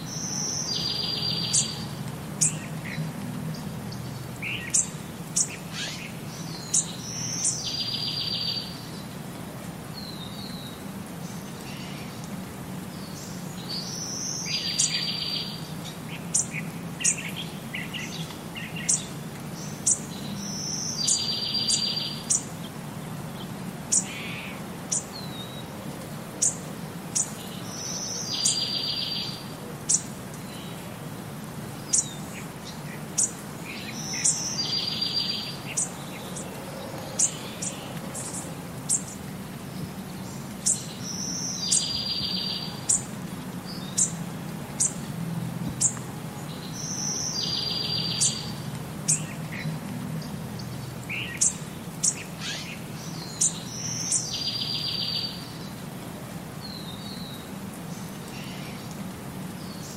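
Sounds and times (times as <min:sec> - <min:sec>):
rain hiss: 0:00.0 - 0:59.9.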